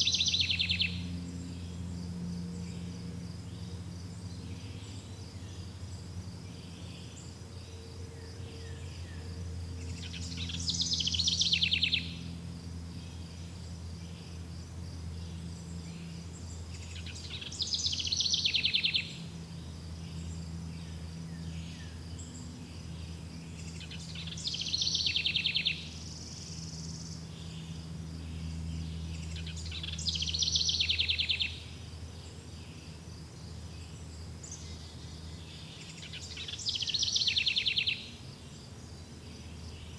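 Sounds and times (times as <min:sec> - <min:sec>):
insects chirping: 0:00.0 - 0:39.9
low steady hum: 0:00.0 - 0:39.9.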